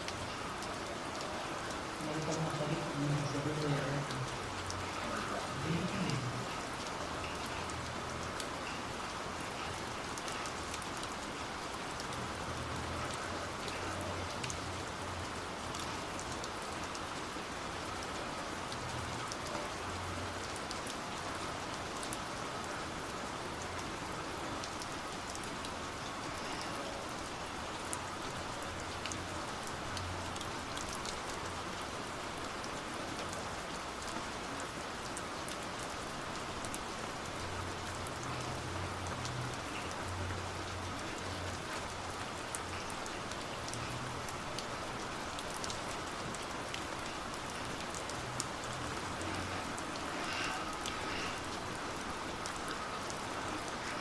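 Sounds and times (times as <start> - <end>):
rain-like hiss: 0.0 - 54.0.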